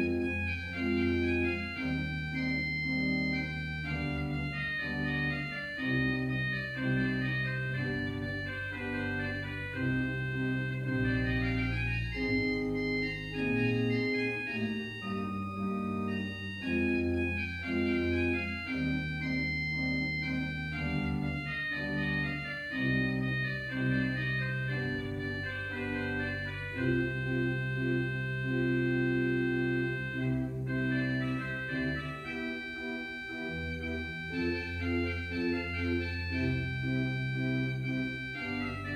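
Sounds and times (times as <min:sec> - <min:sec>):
church organ playing: 0:00.0 - 0:38.9.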